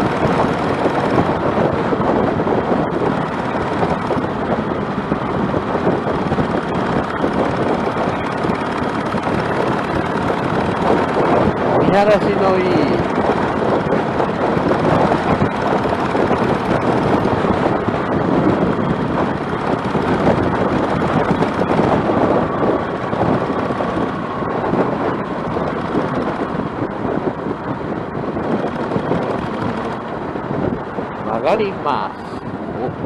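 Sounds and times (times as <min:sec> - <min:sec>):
motorcycle engine: 0:00.0 - 0:33.0
road noise: 0:00.0 - 0:33.0
wind rushing over microphone: 0:00.0 - 0:33.0.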